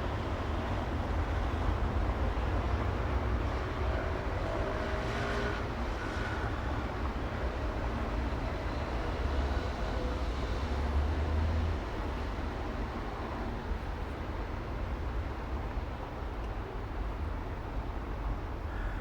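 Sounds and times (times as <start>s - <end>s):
passing vehicles rumble and hiss: 0.0s - 19.0s.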